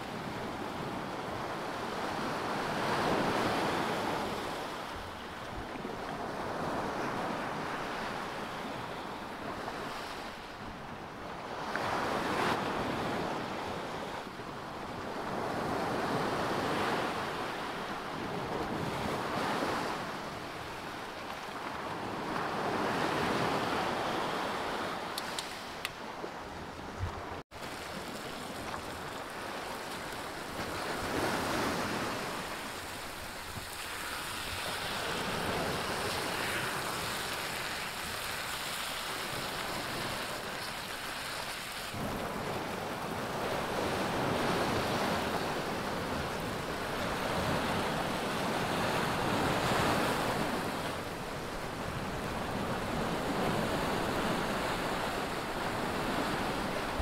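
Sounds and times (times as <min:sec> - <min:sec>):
sea waves washing onto shore: 0:00.0 - 0:26.4, 0:27.0 - 0:57.0.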